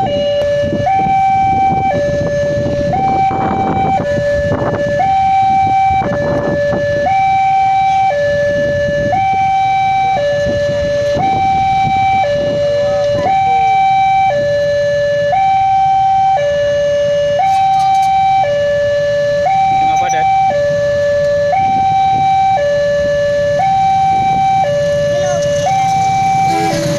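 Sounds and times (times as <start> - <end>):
level crossing two-tone alarm: 0.0 - 26.9.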